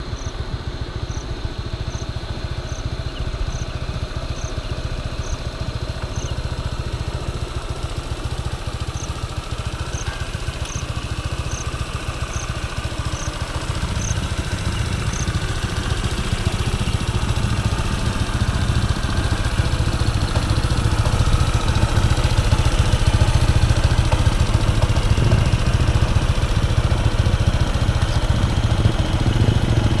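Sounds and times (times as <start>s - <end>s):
scooter engine idling: 0.0s - 30.0s.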